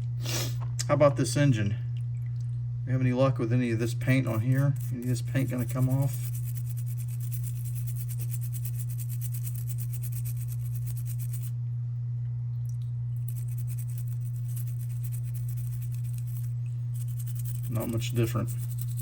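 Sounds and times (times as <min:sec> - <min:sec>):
steady low-pitched hum: 0:00.0 - 0:19.0.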